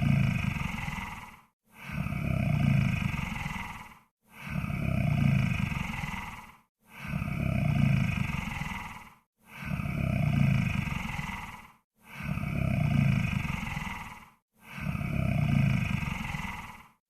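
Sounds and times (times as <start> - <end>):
deep growling snoring breaths: 0.0 - 17.0.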